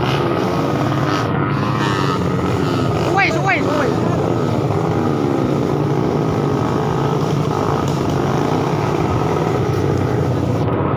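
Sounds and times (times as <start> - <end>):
motorcycle engine running loud: 0.0 - 10.9.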